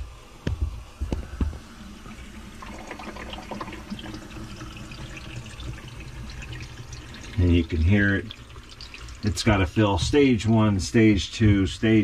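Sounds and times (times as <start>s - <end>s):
water hissing and trickling: 1.0s - 11.1s.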